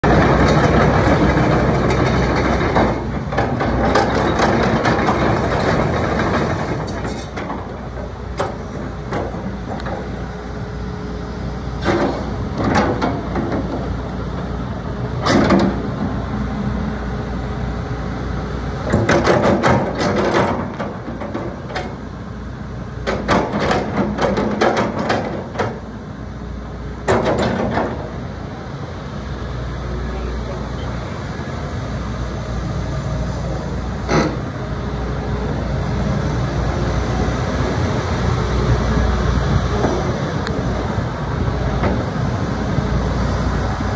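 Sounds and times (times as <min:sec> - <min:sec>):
excavator diesel engine running: 0:00.0 - 0:43.9
knocking and hydraulic noise: 0:00.0 - 0:43.9.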